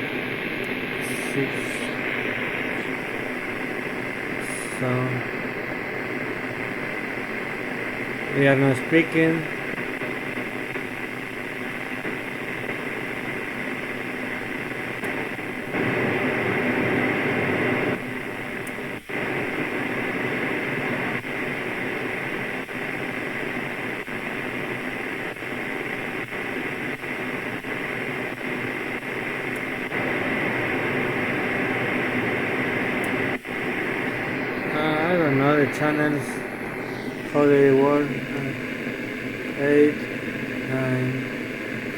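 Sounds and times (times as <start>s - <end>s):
radio static hiss: 0.0s - 41.9s.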